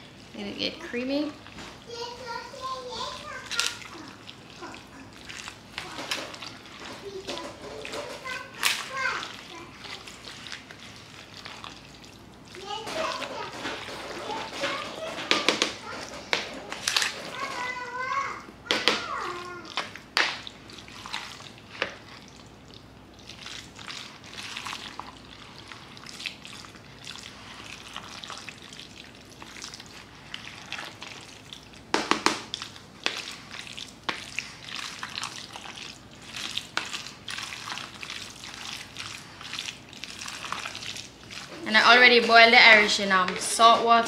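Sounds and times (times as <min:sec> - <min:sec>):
wet stirring of salad: 0:00.0 - 0:44.0.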